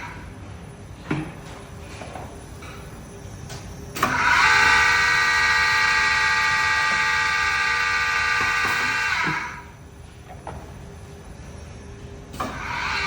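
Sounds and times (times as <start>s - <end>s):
machine buzzing whine: 0.0s - 13.0s.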